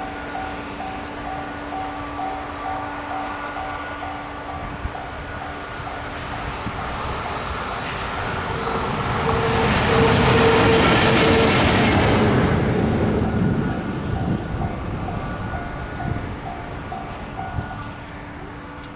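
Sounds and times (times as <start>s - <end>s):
train passing: 0.0s - 18.9s.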